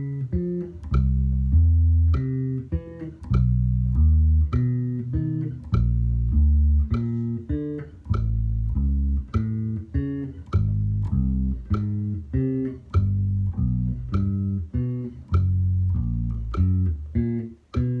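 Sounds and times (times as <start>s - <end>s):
bass guitar plucked notes: 0.0s - 18.0s.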